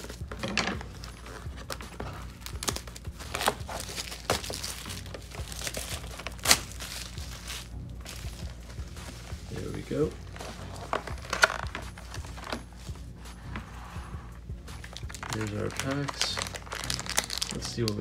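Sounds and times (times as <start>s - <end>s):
plastic shrink wrap crinkling: 0.0s - 12.9s, 14.8s - 18.0s.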